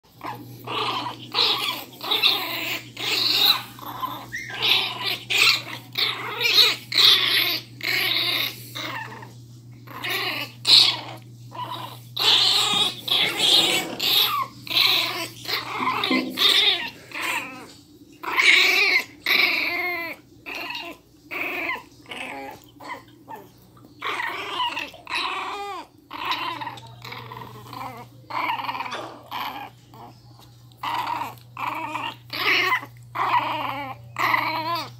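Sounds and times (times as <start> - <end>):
puppies growling: 0.0 - 34.9
puppies yelping: 0.1 - 34.9.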